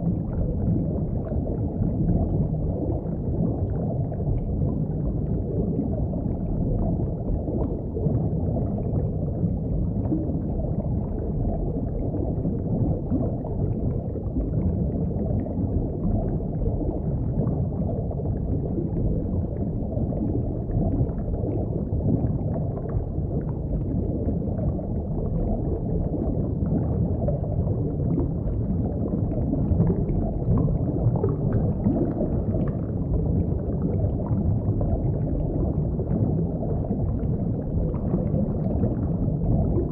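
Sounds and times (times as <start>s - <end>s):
bubbling underwater: 0.0s - 39.9s
deep underwater rumble: 0.0s - 39.9s.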